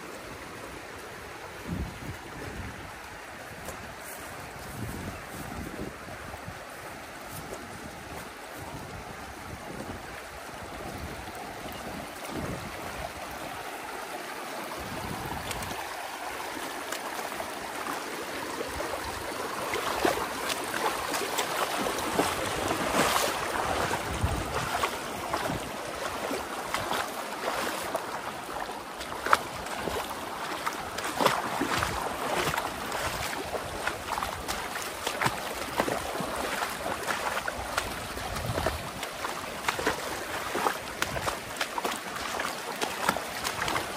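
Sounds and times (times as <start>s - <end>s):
river water flowing: 0.0s - 43.9s
water splashes: 0.0s - 43.9s.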